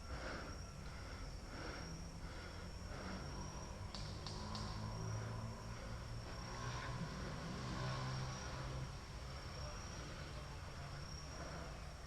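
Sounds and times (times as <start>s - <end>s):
distant engine droning: 0.0s - 12.0s
faint high-pitched whine: 0.0s - 12.0s.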